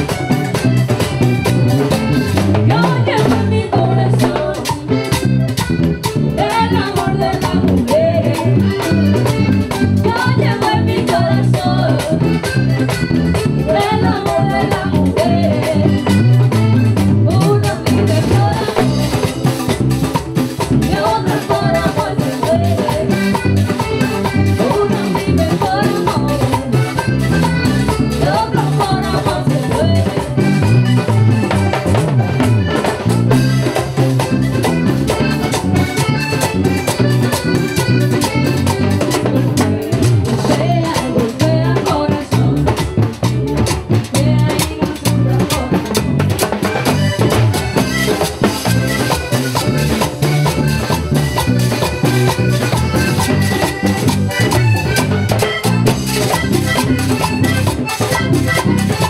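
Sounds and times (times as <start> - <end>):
button accordion: 0.0 - 59.0
live band playing: 0.0 - 59.0.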